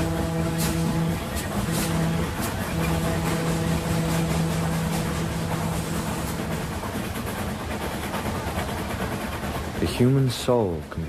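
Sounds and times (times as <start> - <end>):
train cars rumbling and clattering: 0.0 - 11.0.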